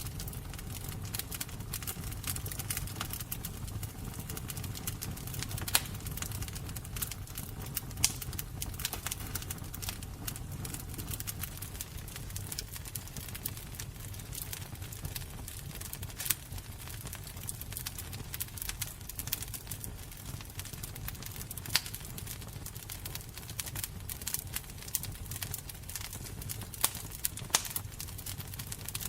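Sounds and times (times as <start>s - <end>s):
fire popping: 0.0s - 29.0s
wood fire crackling: 0.0s - 29.0s.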